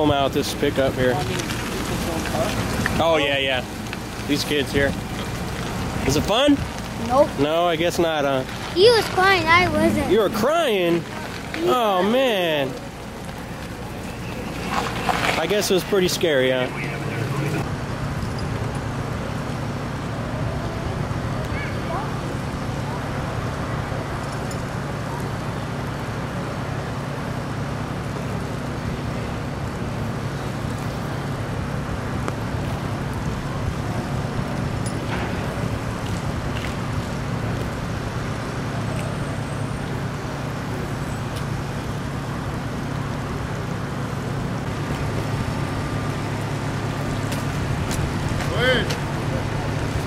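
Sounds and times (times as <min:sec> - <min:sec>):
vehicle engine idling: 0:00.0 - 0:50.0.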